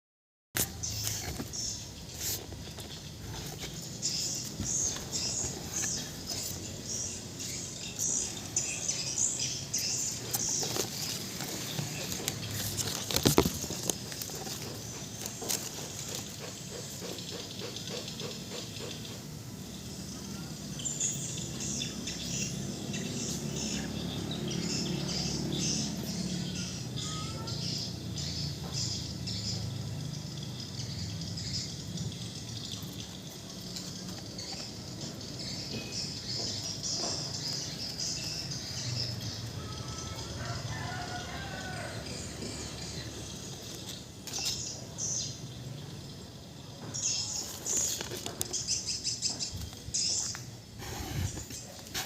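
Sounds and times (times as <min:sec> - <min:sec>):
small bird chirping: 0:00.6 - 0:52.0.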